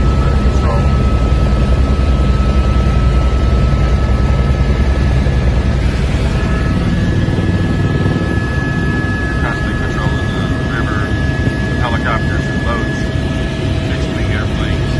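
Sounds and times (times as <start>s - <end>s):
helicopter engine and rotor drone: 0.0s - 14.9s
high whine: 0.0s - 14.9s.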